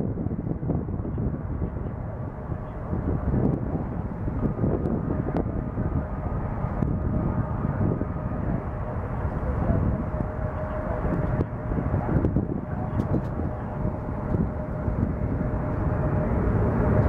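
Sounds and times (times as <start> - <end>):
faint engine whine: 0.0 - 17.0
jet engines deep rumble: 0.0 - 17.0.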